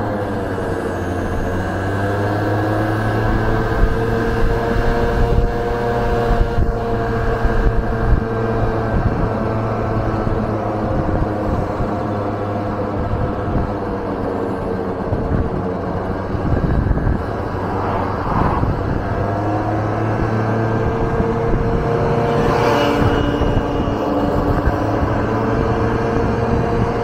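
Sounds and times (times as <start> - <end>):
scooter engine running: 0.0 - 27.0
wind and road noise: 0.0 - 27.0.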